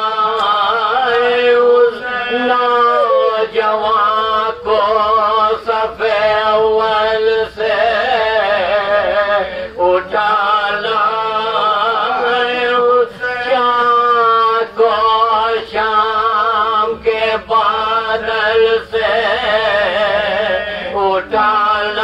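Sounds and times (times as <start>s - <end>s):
men chanting an elegy: 0.0s - 22.0s.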